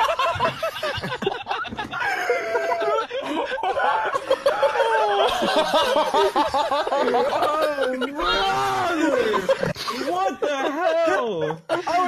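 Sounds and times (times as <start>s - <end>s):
people laughing together: 0.0s - 12.0s.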